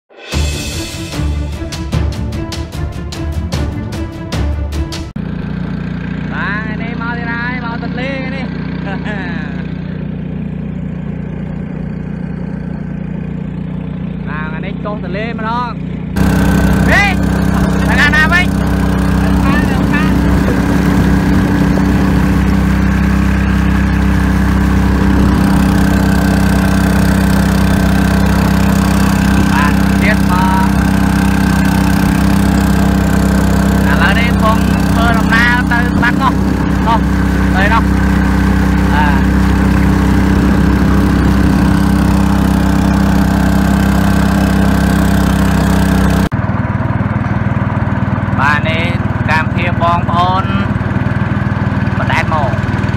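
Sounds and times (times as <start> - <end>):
small boat engine running: 0.2 - 52.9.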